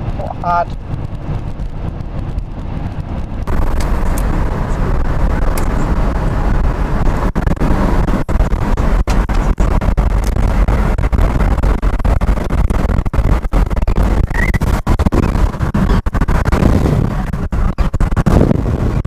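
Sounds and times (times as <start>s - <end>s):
car cabin road rumble: 0.0s - 19.0s
road and wind noise: 0.0s - 19.0s.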